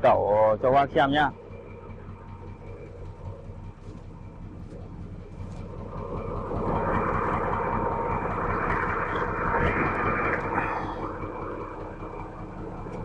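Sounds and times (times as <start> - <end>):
diesel engine running: 0.0 - 13.0
rushing sound with whine: 0.6 - 13.0.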